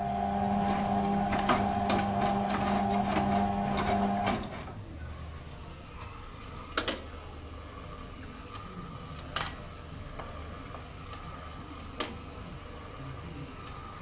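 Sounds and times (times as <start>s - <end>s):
washing machine motor whine: 0.0s - 14.0s.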